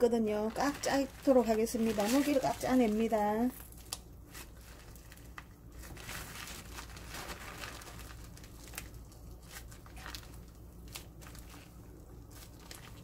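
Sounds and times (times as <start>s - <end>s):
plastic bag crinkling: 0.1s - 13.0s.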